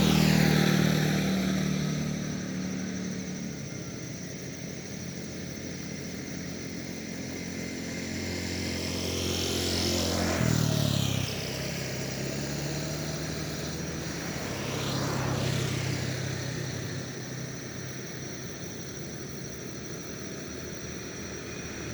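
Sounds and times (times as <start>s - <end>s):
low engine hum: 0.0s - 21.9s
vehicles passing by: 0.0s - 21.9s.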